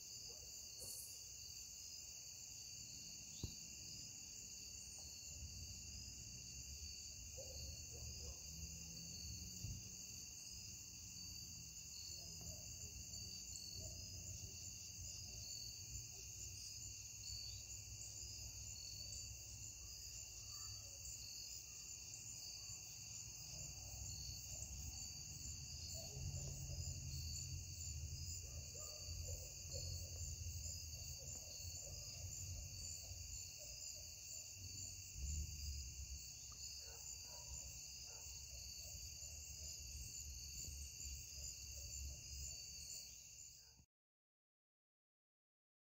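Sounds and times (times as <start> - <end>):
crickets chirping: 0.0 - 43.8.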